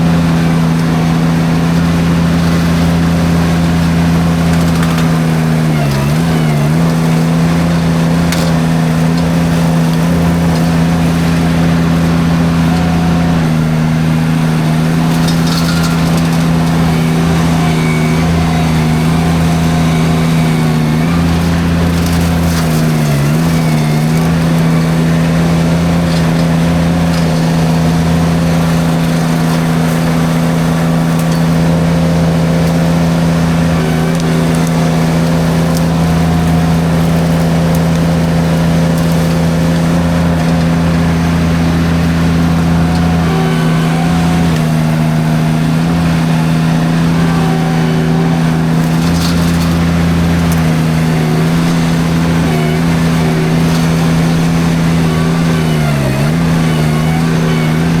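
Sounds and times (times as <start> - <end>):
engine running at high revs: 0.0 - 58.0
mulcher cutting brush: 0.0 - 58.0
wood cracking: 0.0 - 58.0.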